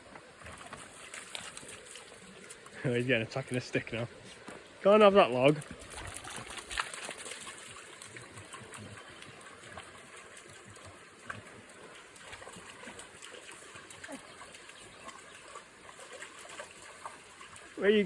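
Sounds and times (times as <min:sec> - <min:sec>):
stream water trickling: 0:00.0 - 0:18.0
small splashes or knocks: 0:00.1 - 0:02.8, 0:05.3 - 0:17.8.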